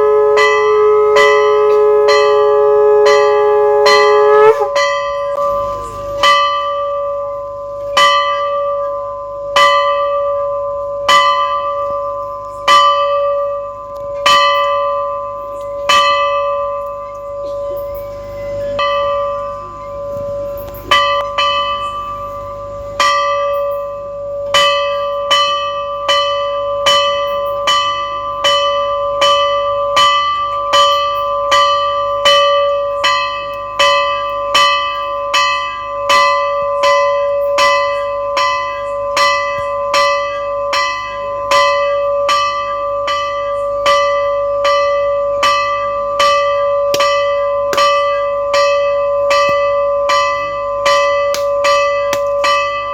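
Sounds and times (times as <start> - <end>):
temple bell ringing: 0.0 - 52.9.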